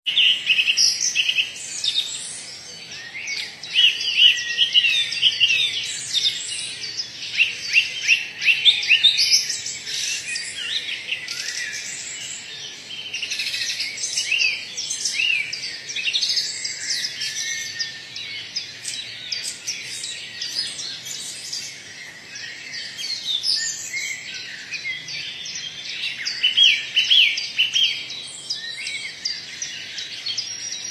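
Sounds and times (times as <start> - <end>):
birds chirping and calling: 0.1 - 30.9.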